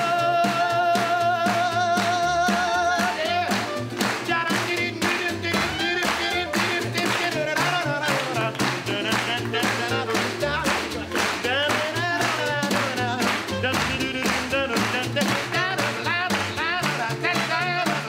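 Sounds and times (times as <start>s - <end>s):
snare drum beat: 0.0s - 18.0s
strummed ukulele: 0.0s - 18.0s
walking upright bass: 0.0s - 18.0s.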